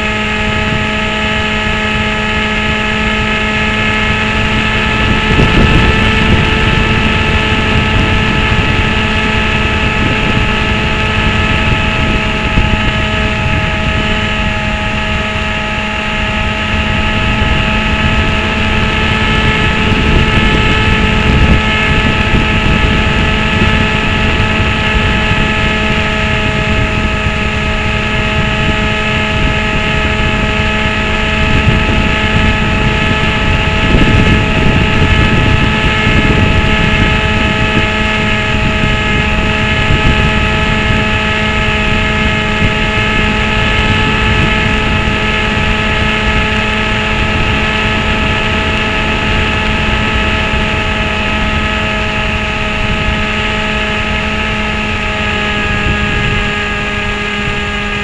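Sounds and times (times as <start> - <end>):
aircraft engine and propeller whine: 0.0 - 58.0
wind rush: 0.0 - 58.0.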